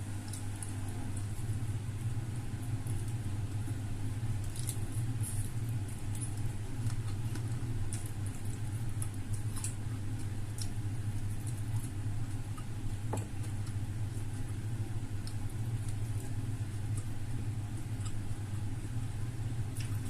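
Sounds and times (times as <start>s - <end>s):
chewing and mouth sounds: 0.1s - 19.0s, 19.6s - 20.0s.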